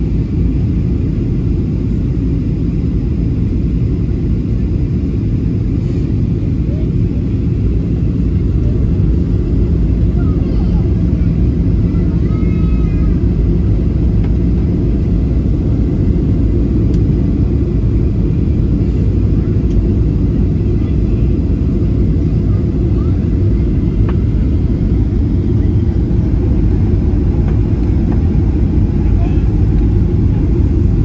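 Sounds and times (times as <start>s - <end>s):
low rumble inside airplane cabin: 0.0s - 31.0s.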